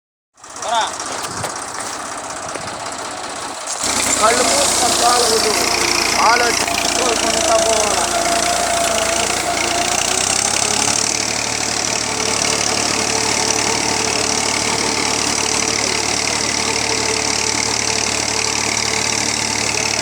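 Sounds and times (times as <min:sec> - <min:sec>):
tractor engine idling: 0:00.4 - 0:20.0.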